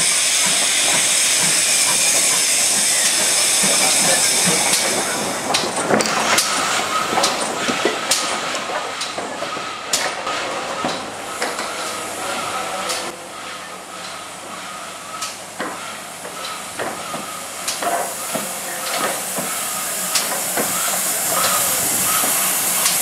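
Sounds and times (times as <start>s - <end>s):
locomotive wheels clanking: 0.0s - 23.0s
steam locomotive hissing: 0.0s - 23.0s.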